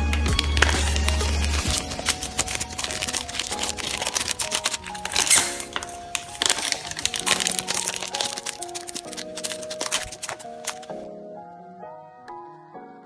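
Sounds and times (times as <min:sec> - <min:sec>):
plastic sleeve crinkling: 0:00.0 - 0:11.1
background music with held notes: 0:00.0 - 0:13.0.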